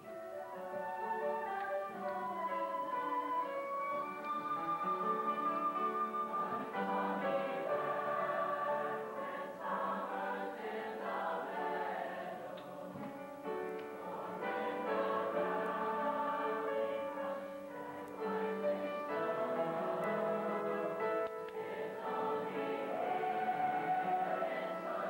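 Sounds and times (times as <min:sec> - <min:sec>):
choir singing in harmony: 0:00.0 - 0:25.0.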